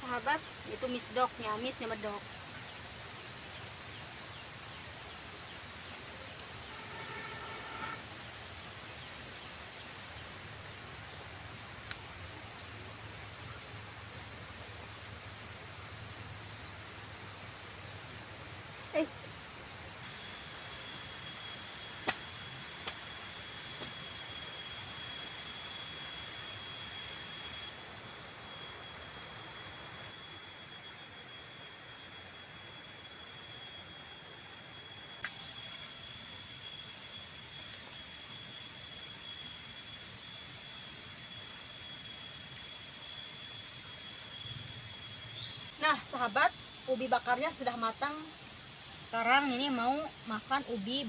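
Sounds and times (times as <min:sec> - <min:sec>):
high-pitched whine: 0:00.0 - 0:51.0.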